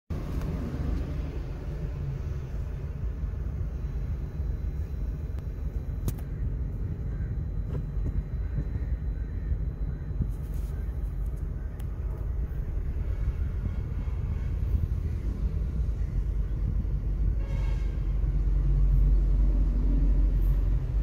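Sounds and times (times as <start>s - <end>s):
diesel locomotive rumble: 0.1s - 21.0s.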